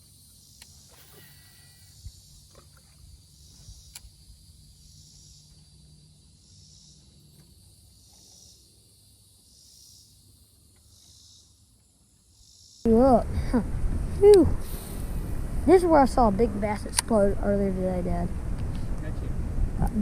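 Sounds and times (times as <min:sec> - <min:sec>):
insects buzzing: 0:00.0 - 0:19.3.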